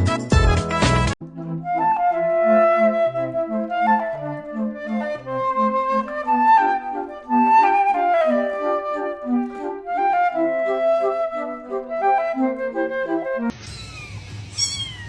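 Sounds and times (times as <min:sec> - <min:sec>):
light woodwind melody: 0:01.2 - 0:13.5.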